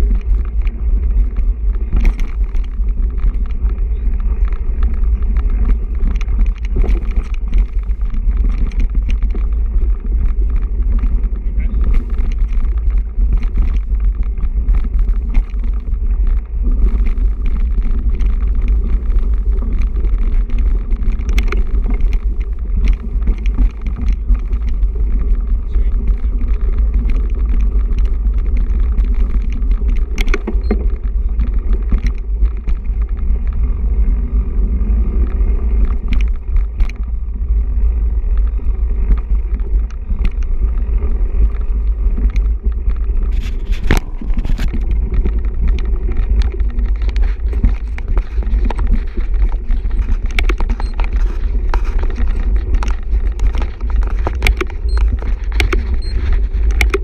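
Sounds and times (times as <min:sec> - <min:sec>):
bike knocks and rattles: 0:00.0 - 0:57.0
tyres on gravel: 0:00.0 - 0:57.0
wind buffeting microphone: 0:00.0 - 0:57.0.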